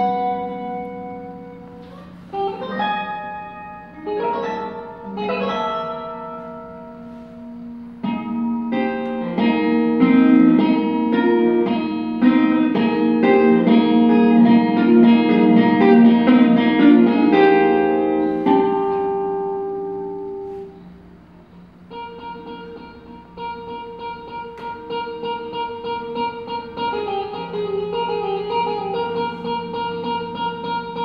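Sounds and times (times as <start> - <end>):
electric guitar playing: 0.0 - 31.0.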